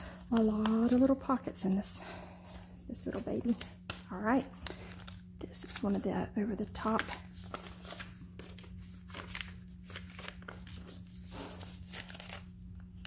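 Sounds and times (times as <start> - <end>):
paper pages rustling: 0.0 - 1.4, 2.4 - 6.0, 6.6 - 13.0.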